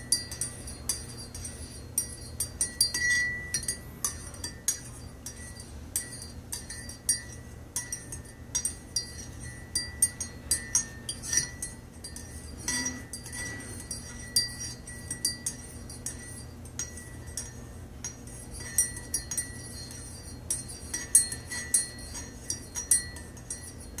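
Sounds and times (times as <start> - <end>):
teaspoon clinking in ceramic mug: 0.0 - 24.0.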